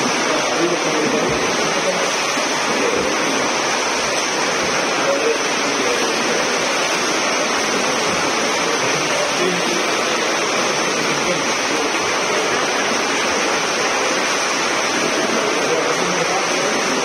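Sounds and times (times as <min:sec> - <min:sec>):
swimmers splashing in pool: 0:00.0 - 0:17.0.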